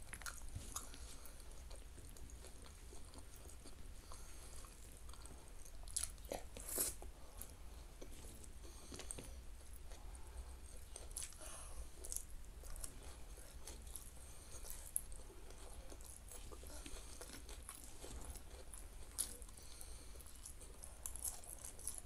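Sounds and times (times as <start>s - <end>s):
chewing food: 0.0s - 22.0s.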